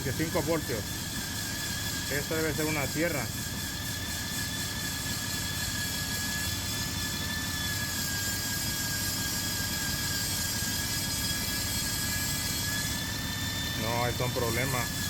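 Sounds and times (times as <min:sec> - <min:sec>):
thin high whine: 0:00.0 - 0:15.0.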